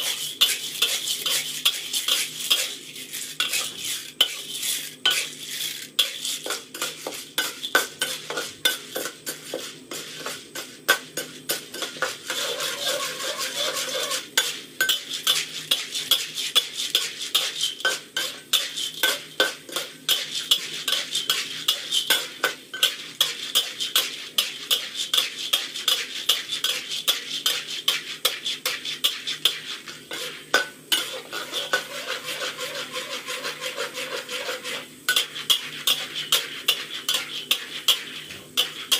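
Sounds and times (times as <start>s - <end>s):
light sizzle: 0.0s - 38.9s
metal spatula scraping a wok: 0.0s - 38.9s
popcorn kernels rattling in pan: 0.0s - 38.9s.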